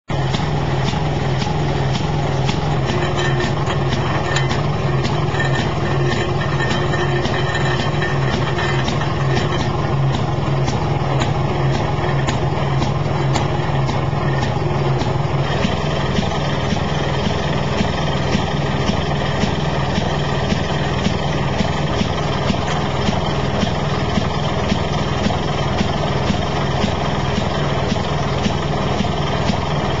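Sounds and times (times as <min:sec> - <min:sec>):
gasoline engine running: 0:00.0 - 0:30.0.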